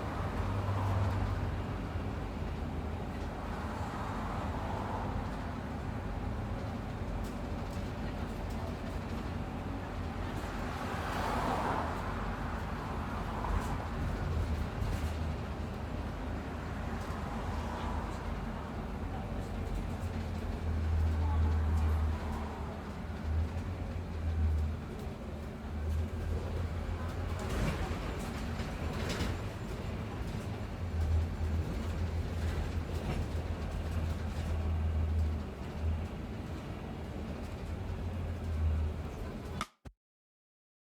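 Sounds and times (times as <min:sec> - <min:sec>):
bus engine and road rumble: 0:00.0 - 0:39.8.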